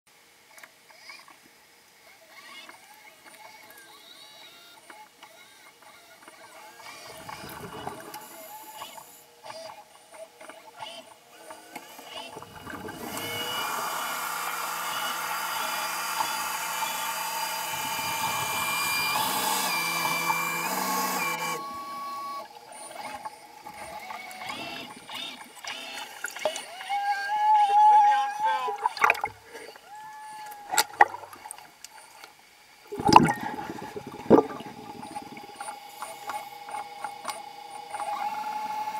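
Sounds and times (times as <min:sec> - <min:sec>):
underwater thruster motors: 0:06.2 - 0:38.9.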